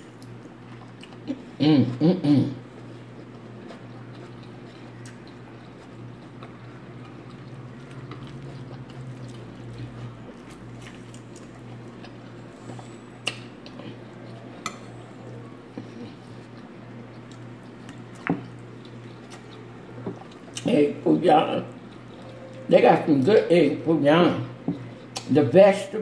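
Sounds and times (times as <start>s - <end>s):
person chewing food: 0.0s - 25.4s
steady low hum: 0.0s - 26.0s.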